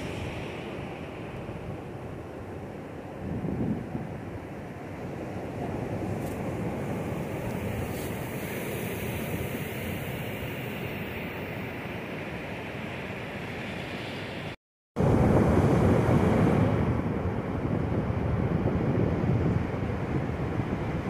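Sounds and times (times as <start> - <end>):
sea surf washing up beach: 0.0 - 21.0
wind buffeting microphone: 0.0 - 21.0.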